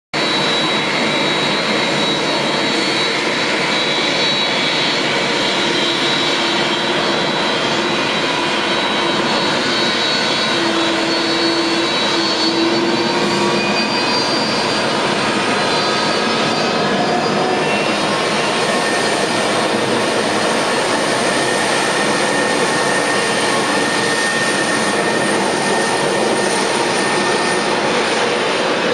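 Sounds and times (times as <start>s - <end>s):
high engine whine: 0.2s - 28.9s
jet engine rush: 0.2s - 28.9s.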